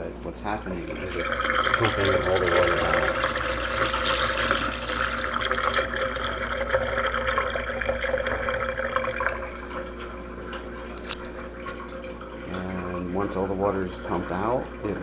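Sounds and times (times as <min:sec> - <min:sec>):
water splashing into sink drain: 0:00.8 - 0:15.0.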